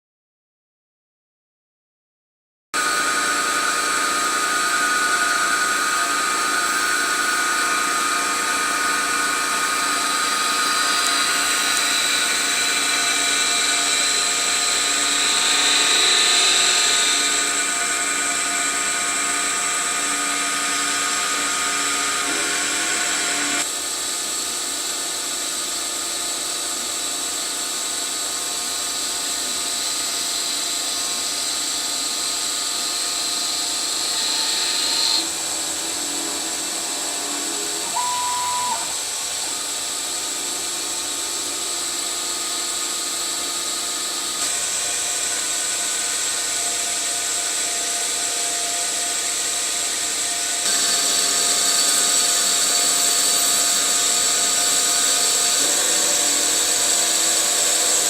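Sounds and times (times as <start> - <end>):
whining machine motor: 2.8 - 23.7, 26.5 - 58.0.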